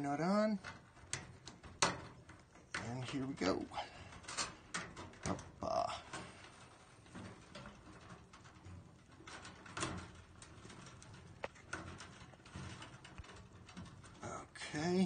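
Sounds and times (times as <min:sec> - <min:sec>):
wires rustling and scraping: 0:00.0 - 0:15.0.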